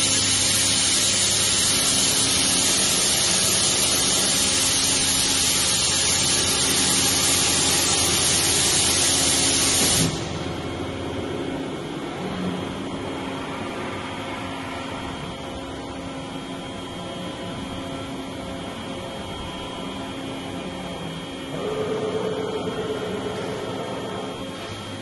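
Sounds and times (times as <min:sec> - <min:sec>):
high machine whine: 0:00.0 - 0:25.0
lathe machine hum: 0:00.0 - 0:25.0.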